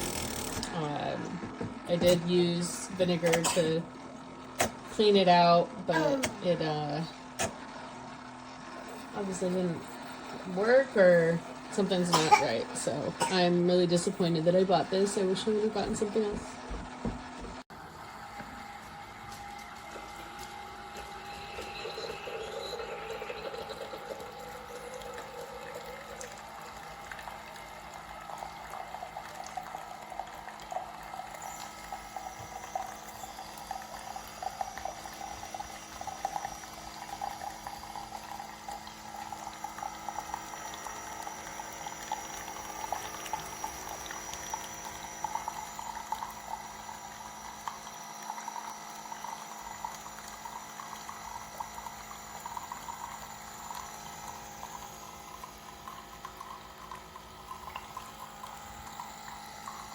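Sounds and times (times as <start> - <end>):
coffee maker bubbling and gurgling: 0.0 - 59.9.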